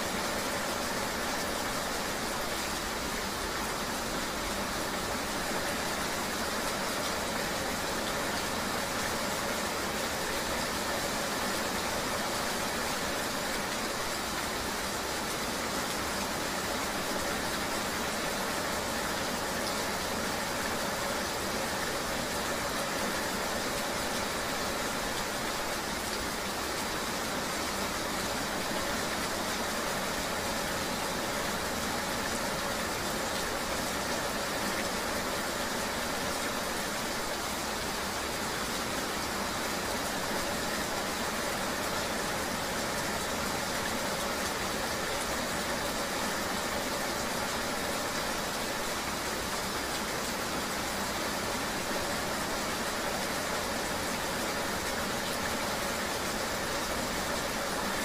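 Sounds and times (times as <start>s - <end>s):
rain: 0.0s - 58.0s.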